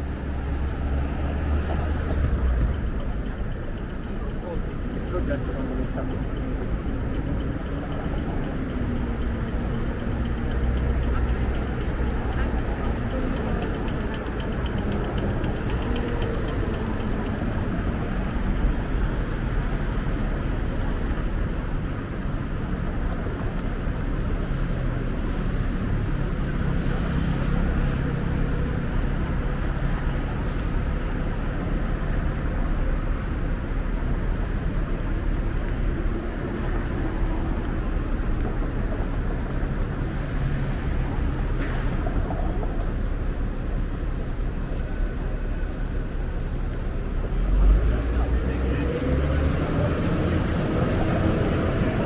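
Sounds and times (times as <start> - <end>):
passing vehicles rumbling: 0.0 - 52.0.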